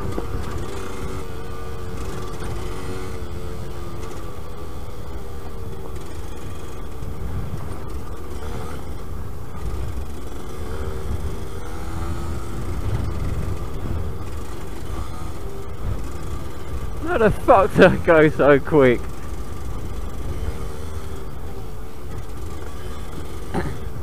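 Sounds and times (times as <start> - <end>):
low ride rumble: 0.0 - 24.0
two-stroke motorcycle engine: 0.0 - 24.0.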